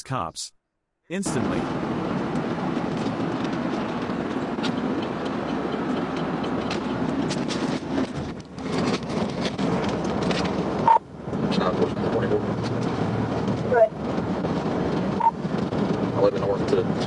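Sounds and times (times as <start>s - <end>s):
car road and engine noise: 1.1s - 17.0s.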